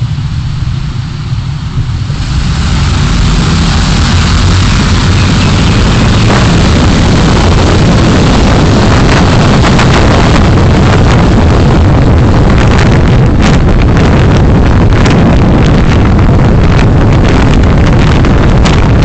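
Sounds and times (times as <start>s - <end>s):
road and wind noise: 0.0s - 19.0s
wind buffeting microphone: 0.0s - 19.0s.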